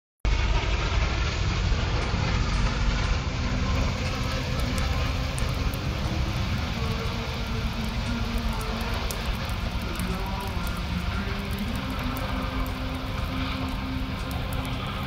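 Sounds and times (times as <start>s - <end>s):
loud steady rumbling: 0.2s - 15.0s.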